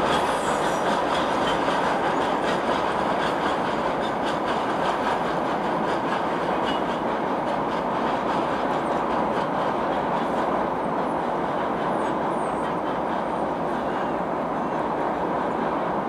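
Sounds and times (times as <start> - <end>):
clicking over rail joints: 0.0 - 14.2
freight train wheels rumbling: 0.0 - 16.0.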